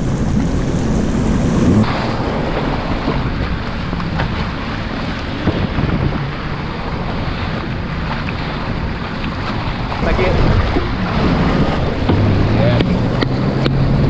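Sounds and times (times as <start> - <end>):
jet ski engine running: 0.0 - 14.0
surf: 0.0 - 14.0
wind buffeting microphone: 0.0 - 14.0.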